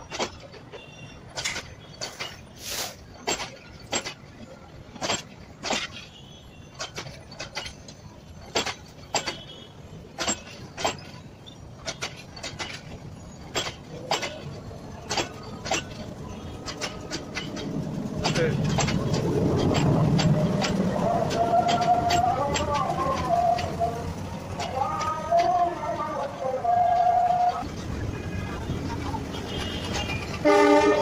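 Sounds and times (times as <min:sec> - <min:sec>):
low train rumble: 0:00.0 - 0:31.0
train wheels clacking over rail joints: 0:00.0 - 0:31.0.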